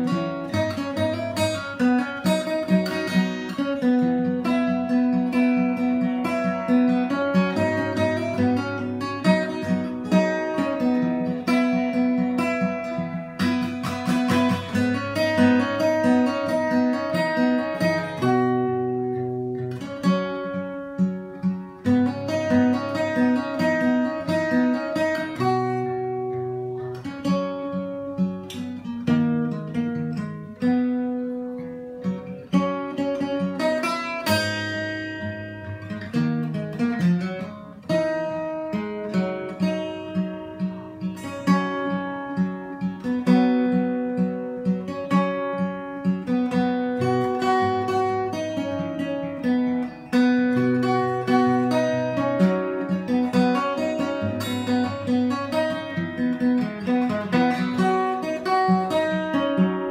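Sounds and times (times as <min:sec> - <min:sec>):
fingerstyle acoustic guitar: 0:00.0 - 0:59.9.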